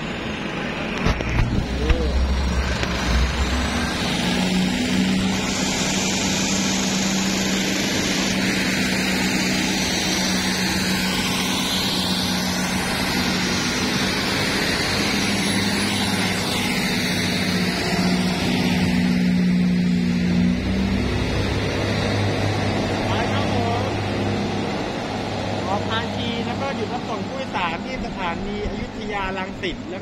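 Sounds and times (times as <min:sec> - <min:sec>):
diesel railcar passing: 0:00.0 - 0:30.0.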